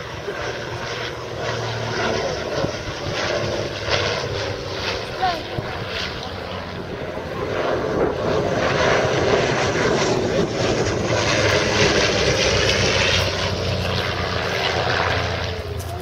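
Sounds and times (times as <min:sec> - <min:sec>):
propeller plane flying past: 0:00.0 - 0:16.0.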